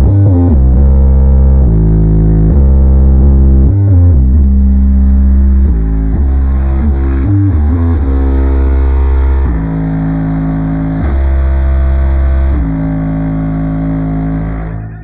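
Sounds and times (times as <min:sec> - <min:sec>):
bass-heavy funk music: 0:00.0 - 0:15.0.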